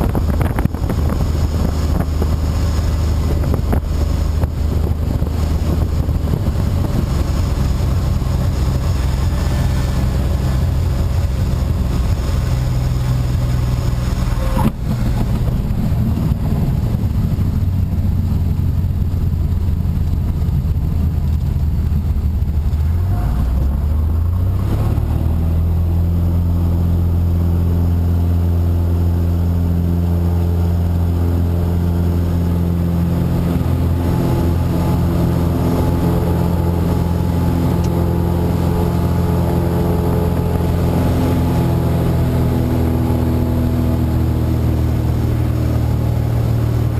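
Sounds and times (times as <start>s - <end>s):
airplane engine and propeller: 0.0s - 46.9s
loud rush of noise: 0.0s - 46.9s.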